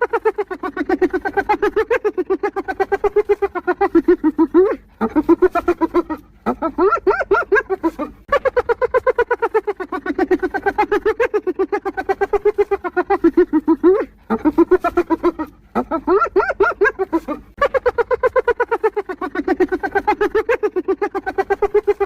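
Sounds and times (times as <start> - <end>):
hyena giggling: 0.0 - 22.0.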